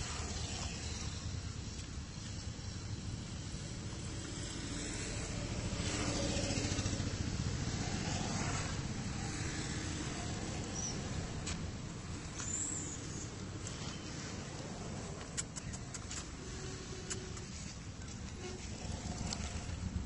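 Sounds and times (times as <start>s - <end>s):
vehicle passing by: 3.0s - 20.0s.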